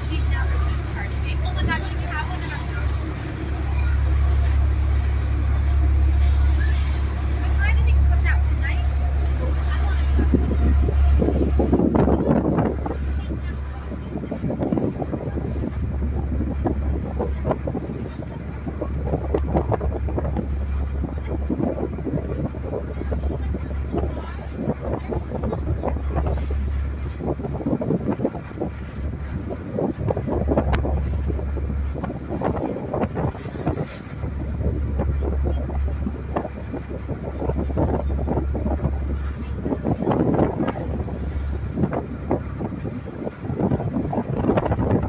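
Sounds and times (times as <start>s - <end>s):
boat engine low rumble: 0.0s - 45.0s
water splashing along hull: 0.0s - 45.0s
wind buffeting microphone: 0.0s - 45.0s.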